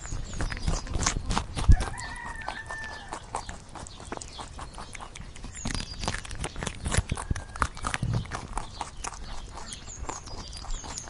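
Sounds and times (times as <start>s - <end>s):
rabbits rustling in dry straw: 0.0s - 11.0s.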